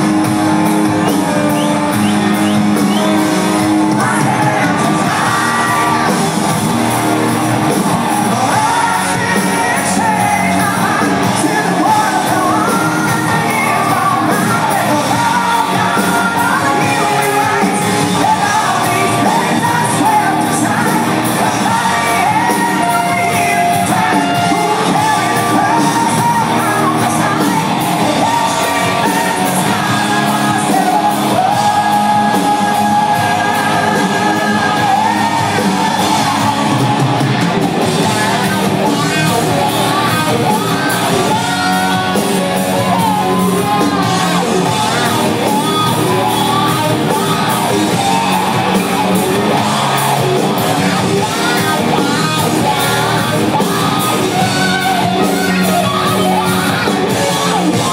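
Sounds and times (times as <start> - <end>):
drums: 0.0 - 57.9
electric guitars: 0.0 - 57.9
singer belting: 0.0 - 57.9.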